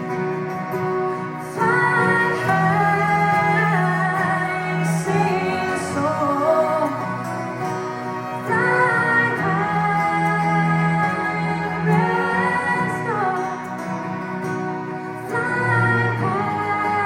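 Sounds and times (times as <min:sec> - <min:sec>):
instrumental accompaniment: 0:00.0 - 0:17.0
women singing a slow ballad: 0:00.0 - 0:17.0.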